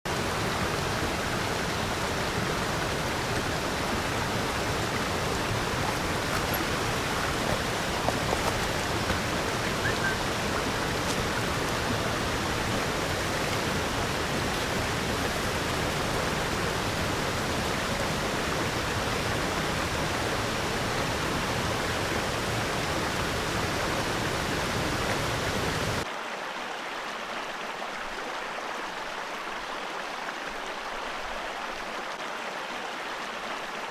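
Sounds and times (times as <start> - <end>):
water rushing over rocks: 0.1 - 33.9.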